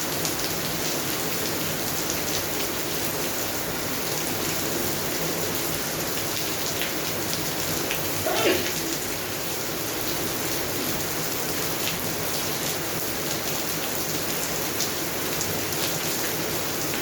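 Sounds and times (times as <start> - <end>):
rain drops pattering: 0.0 - 17.0.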